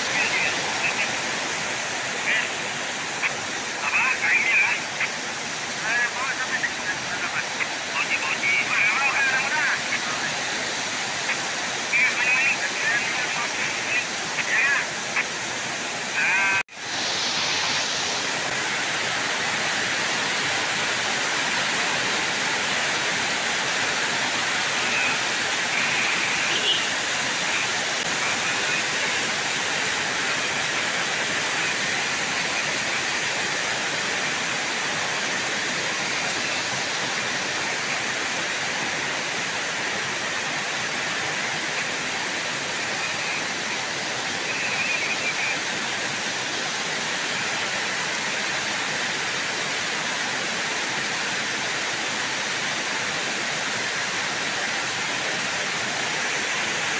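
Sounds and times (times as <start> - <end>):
heavy rain pouring: 0.0 - 56.9.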